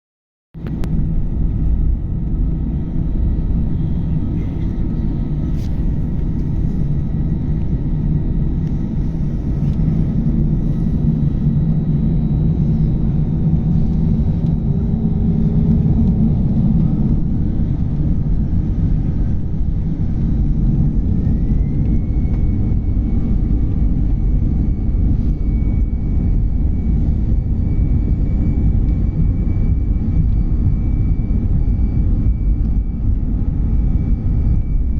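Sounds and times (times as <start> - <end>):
jet engines rumbling: 0.6 - 34.9.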